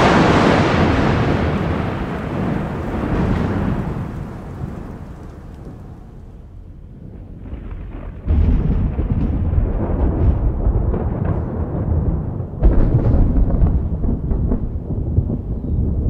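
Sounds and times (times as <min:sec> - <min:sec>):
deep rolling thunder rumble: 0:00.0 - 0:16.0
thunder crack: 0:00.0 - 0:16.0.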